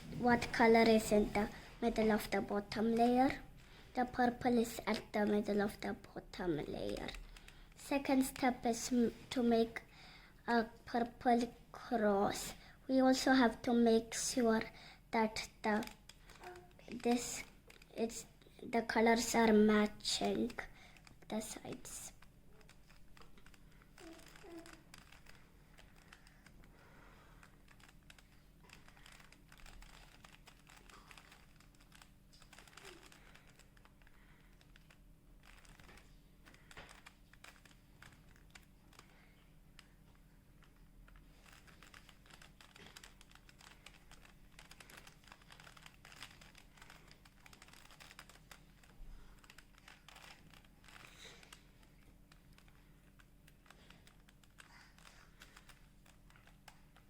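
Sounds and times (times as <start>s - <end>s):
puzzle cube plastic clicking: 2.0s - 9.6s, 15.3s - 57.0s.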